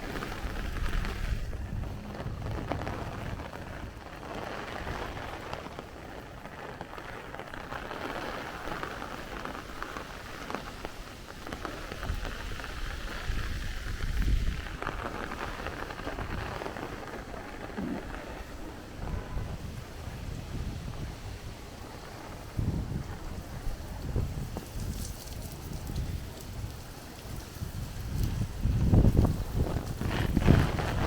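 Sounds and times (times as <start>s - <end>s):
heavy rain falling: 0.0s - 31.0s
wind buffeting microphone: 0.0s - 31.0s.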